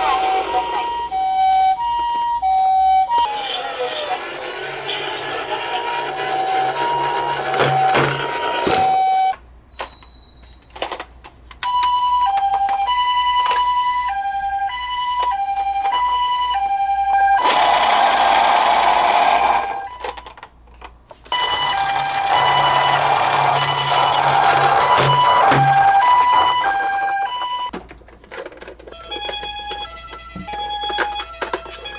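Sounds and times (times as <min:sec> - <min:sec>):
two-tone ambulance siren: 0:00.0 - 0:09.4, 0:11.7 - 0:20.2, 0:21.3 - 0:27.7, 0:28.9 - 0:31.9.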